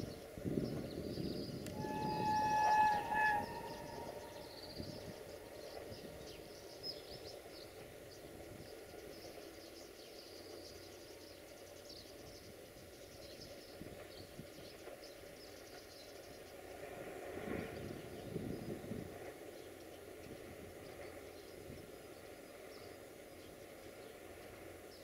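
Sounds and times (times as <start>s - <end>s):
distant train low rumble: 0.0s - 25.0s.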